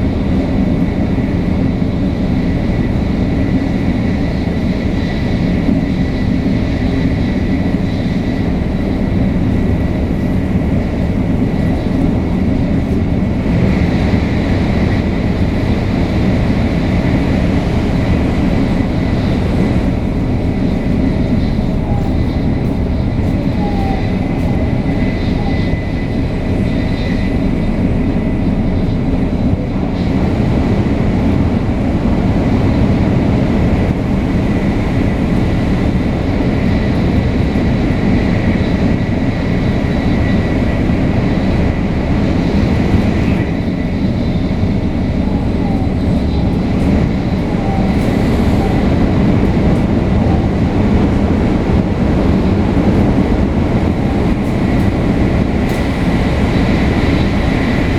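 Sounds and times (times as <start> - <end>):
train rumble: 0.0 - 57.9.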